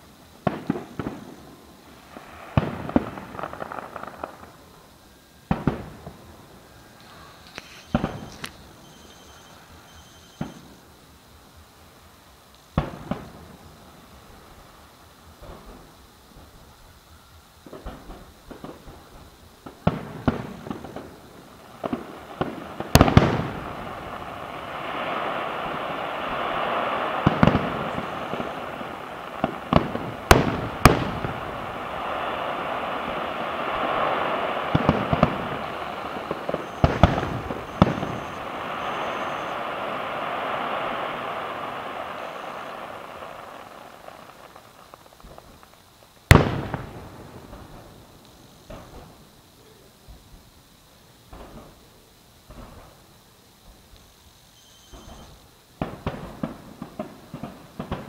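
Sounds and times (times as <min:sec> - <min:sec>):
fireworks bangs: 0:00.0 - 0:11.0, 0:12.6 - 0:50.5, 0:51.3 - 0:58.0
fireworks crackling hiss: 0:00.0 - 0:58.0.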